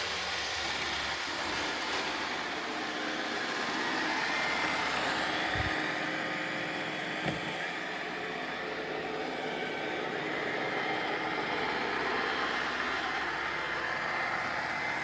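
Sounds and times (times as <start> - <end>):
robot vacuum whirring: 0.1 - 15.0.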